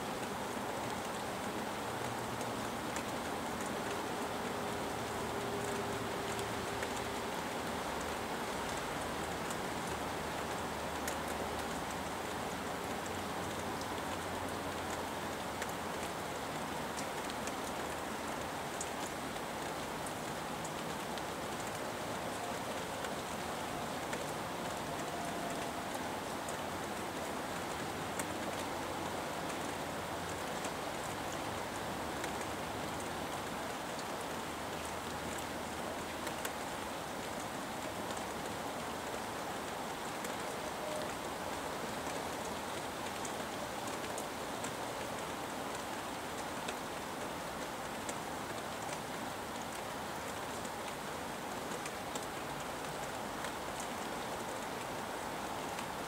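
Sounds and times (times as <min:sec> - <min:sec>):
steady rainfall: 0:00.0 - 0:56.0
raindrops ticking: 0:00.1 - 0:56.0.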